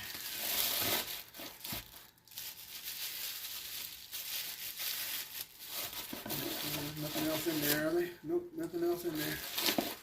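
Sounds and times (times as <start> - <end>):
bubble-wrap bag crinkling: 0.0 - 8.1, 8.8 - 10.0.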